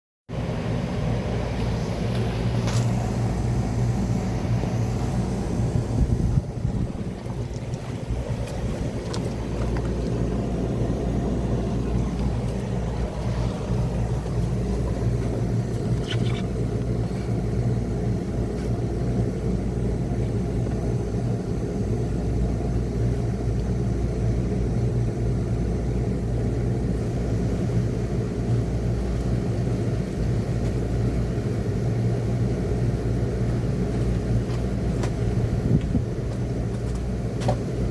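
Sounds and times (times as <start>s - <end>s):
window air conditioner running: 0.3s - 37.9s.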